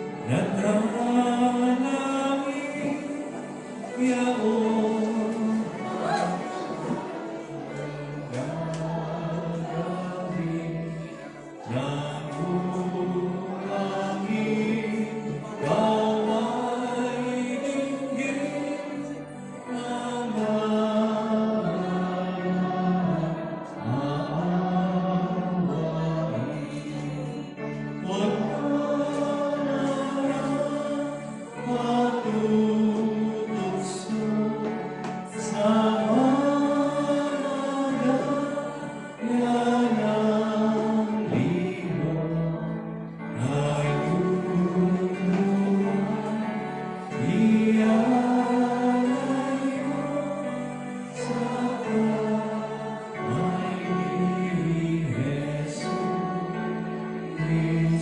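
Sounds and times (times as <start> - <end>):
church choir singing a hymn: 0.0 - 58.0.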